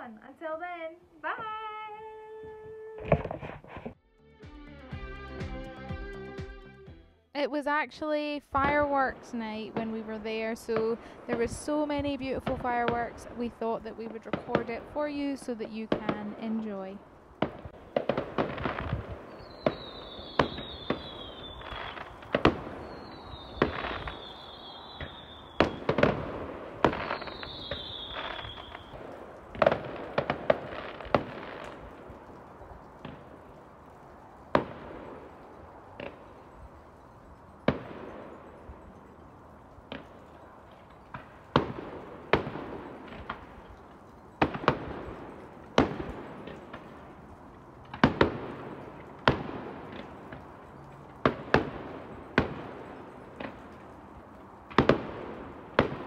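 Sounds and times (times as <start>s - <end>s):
distant fireworks bangs: 8.5s - 56.0s.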